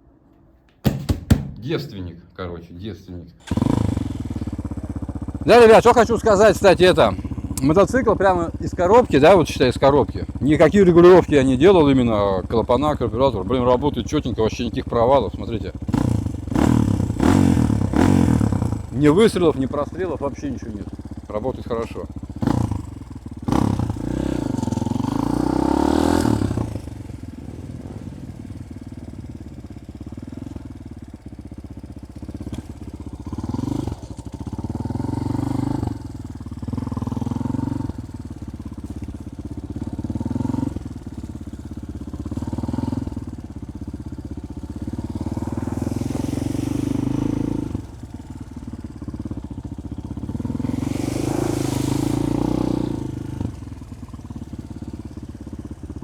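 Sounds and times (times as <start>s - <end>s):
motorcycle engine idling and revving: 0.0s - 2.6s, 3.4s - 56.0s.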